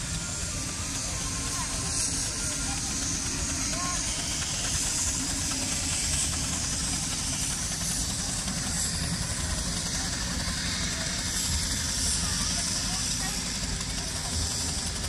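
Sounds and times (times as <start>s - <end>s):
distant steam traction engines: 0.0s - 15.0s.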